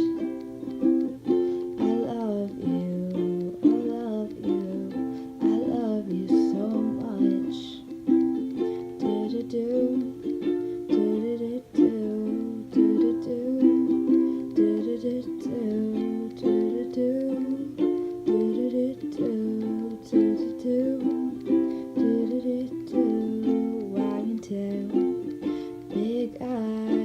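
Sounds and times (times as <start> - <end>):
ukulele strumming chords: 0.0 - 27.0.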